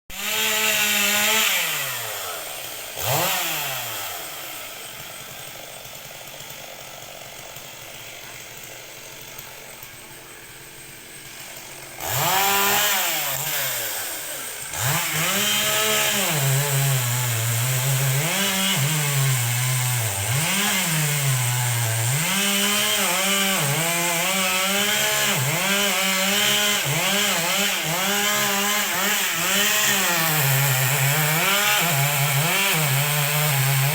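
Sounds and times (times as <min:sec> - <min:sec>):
chainsaw revving and idling: 0:00.1 - 0:33.9.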